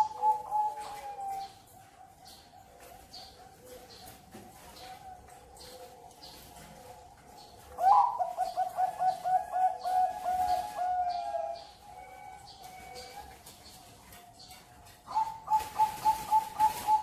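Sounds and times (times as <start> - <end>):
dove cooing notes: 0.0 - 13.8, 14.8 - 17.0
distant doves cooing: 0.0 - 17.0.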